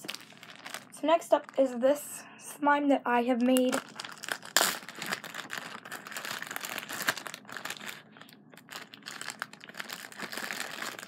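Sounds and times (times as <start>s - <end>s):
plastic bag crinkling: 0.0s - 2.0s, 3.4s - 11.0s.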